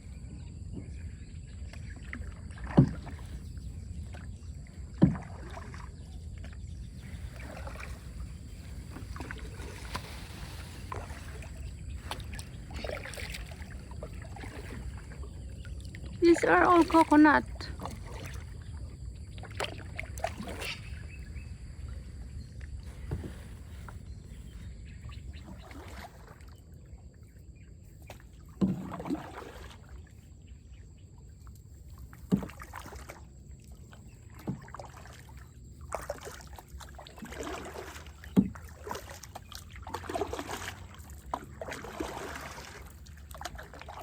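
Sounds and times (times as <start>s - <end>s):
water sloshing against boat: 0.0s - 44.0s.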